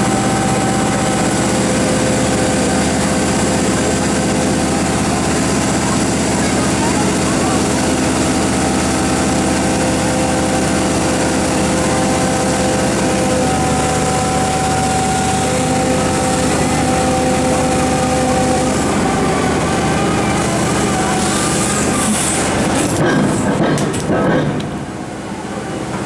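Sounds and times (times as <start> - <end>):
excavator engine drone: 0.0 - 26.0
high hydraulic whine: 0.0 - 26.0.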